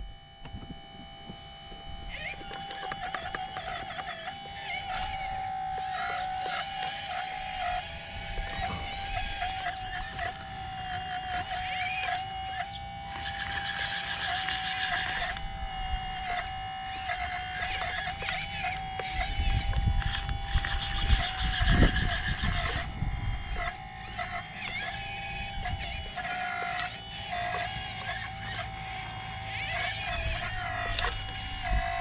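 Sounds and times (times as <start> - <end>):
hydraulic pump motor whining: 0.0 - 32.0.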